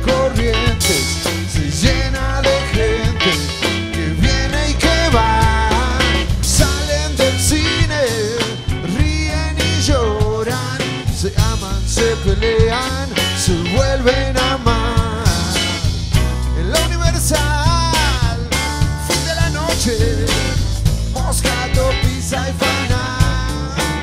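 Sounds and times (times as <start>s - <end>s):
blues-rock band playing: 0.0s - 24.0s
drum kit played with rods: 0.0s - 24.0s
guitar lead with bent notes: 0.0s - 24.0s.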